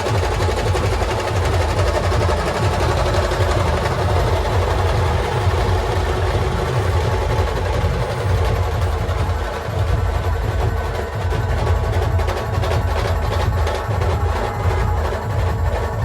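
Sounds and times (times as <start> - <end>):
imitated train chugging: 0.0 - 16.0.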